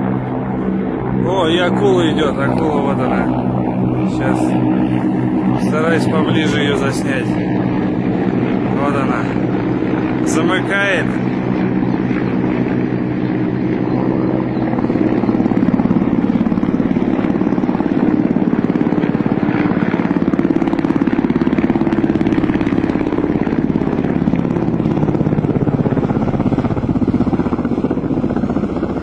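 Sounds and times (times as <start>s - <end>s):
helicopter rotor blades chopping: 0.0s - 29.0s
helicopter turbine drone: 0.0s - 29.0s.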